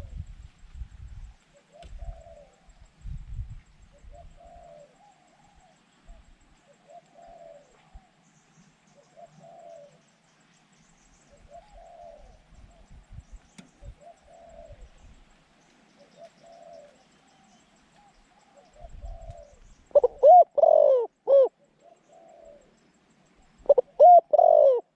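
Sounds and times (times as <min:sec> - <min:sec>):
dove cooing: 0:01.3 - 0:03.0, 0:03.8 - 0:08.2, 0:08.9 - 0:10.2, 0:11.3 - 0:15.3, 0:15.9 - 0:24.9.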